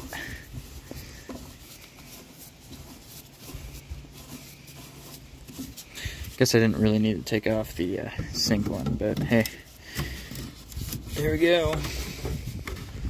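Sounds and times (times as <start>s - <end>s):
plastic fittings scraping and ticking: 0.0s - 13.0s.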